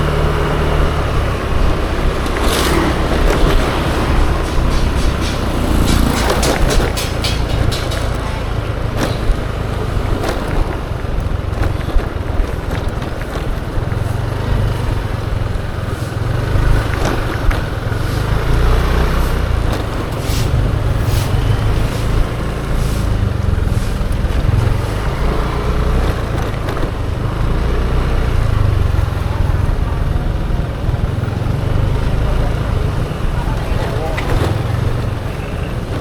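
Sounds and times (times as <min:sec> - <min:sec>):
scooter engine running: 0:00.0 - 0:36.0.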